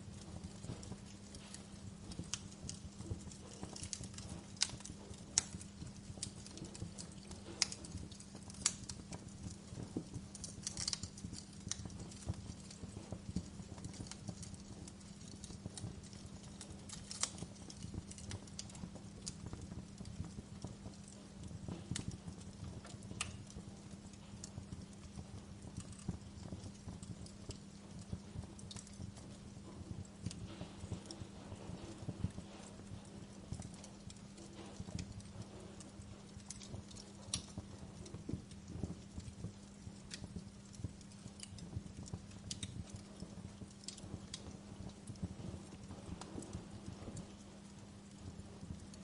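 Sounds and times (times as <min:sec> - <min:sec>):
low background hum: 0:00.0 - 0:49.0
wood fire crackling and popping: 0:00.0 - 0:49.0.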